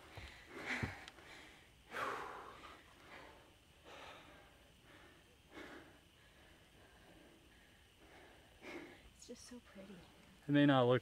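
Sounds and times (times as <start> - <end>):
person breathing hard: 0.0 - 9.2.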